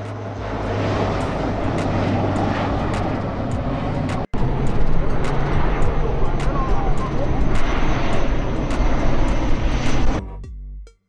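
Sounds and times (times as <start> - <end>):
jet engine noise in flight: 0.0 - 10.2
low hum: 0.0 - 10.6.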